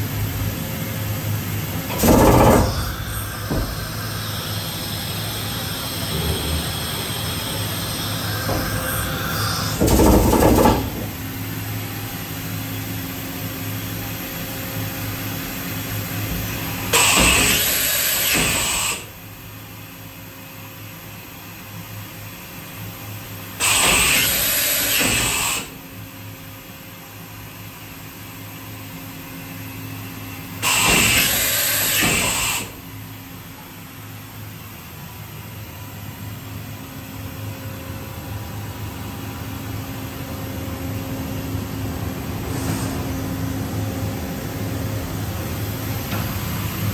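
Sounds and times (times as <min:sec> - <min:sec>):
machine hum with steady tones: 0:00.0 - 0:46.9.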